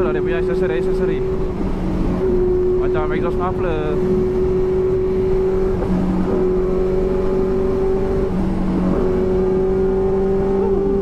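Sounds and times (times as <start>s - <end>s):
motorcycle engine running: 0.0s - 11.0s
road and wind rush: 0.0s - 11.0s.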